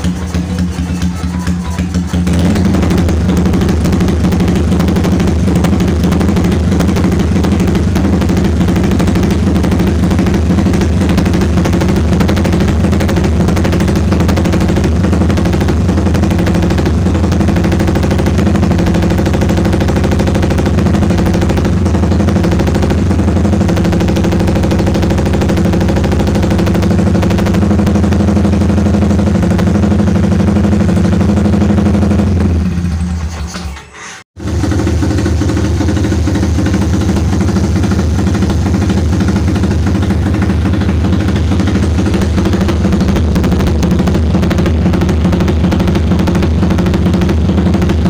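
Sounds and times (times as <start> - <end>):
motorcycle engine running: 0.0 - 33.6, 34.3 - 48.0.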